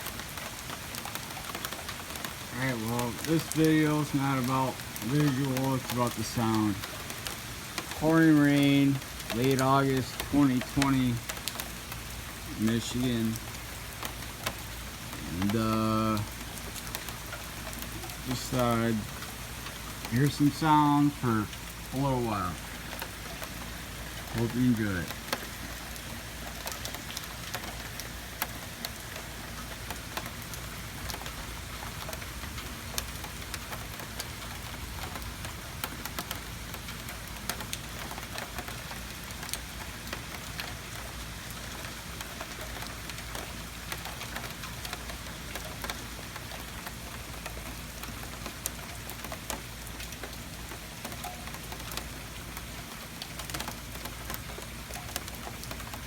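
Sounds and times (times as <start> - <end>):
heavy rain pouring: 0.0 - 56.0
raindrops ticking on hard surfaces: 0.0 - 56.0.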